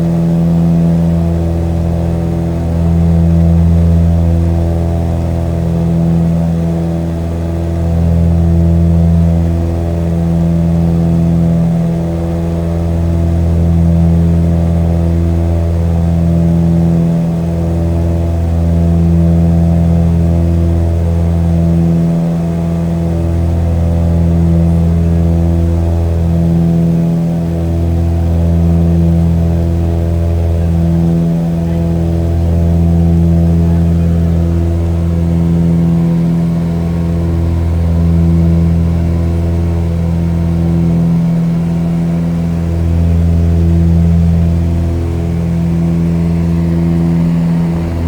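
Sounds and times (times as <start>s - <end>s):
steady engine drone: 0.0s - 48.0s.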